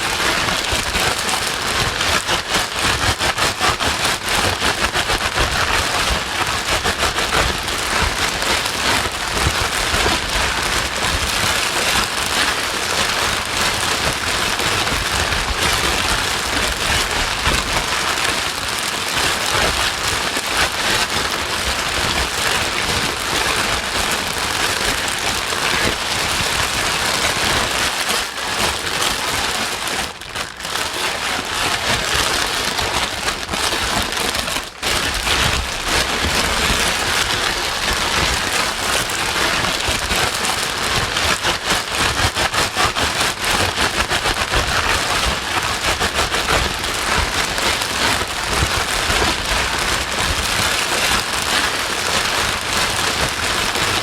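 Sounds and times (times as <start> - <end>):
crackly patters: 0.0 - 54.0.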